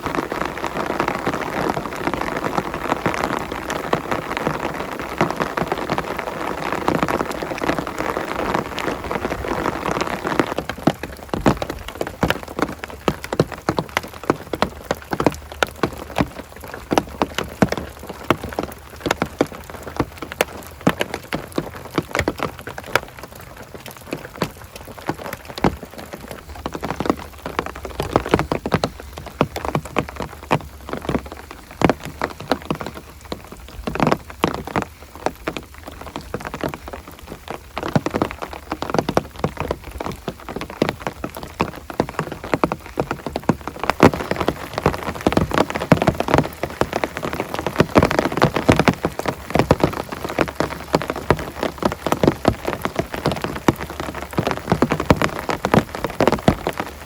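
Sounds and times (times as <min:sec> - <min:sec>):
heavy rain hissing: 0:00.0 - 0:57.0
large raindrops striking surface: 0:00.0 - 0:57.0.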